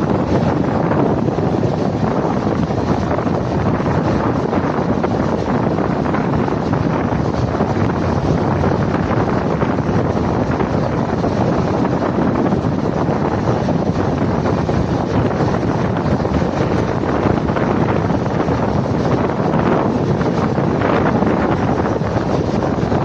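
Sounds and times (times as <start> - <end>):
moving train rumble: 0.0 - 23.0
wind rushing over microphone: 0.0 - 23.0.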